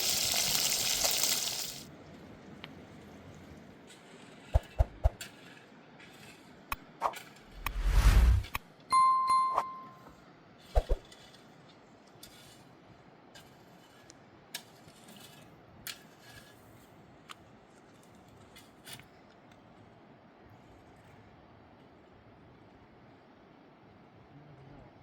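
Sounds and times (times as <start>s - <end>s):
faint steady background noise: 0.0s - 7.7s, 8.4s - 25.0s.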